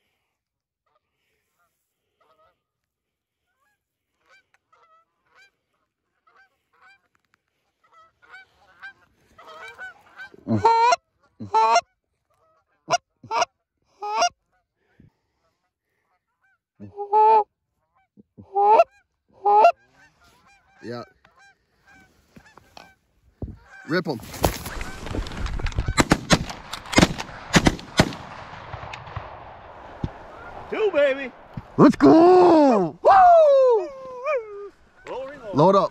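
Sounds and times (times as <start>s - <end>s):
geese honking: 0.9s - 14.7s, 15.4s - 26.9s, 30.0s - 32.9s, 33.9s - 35.9s.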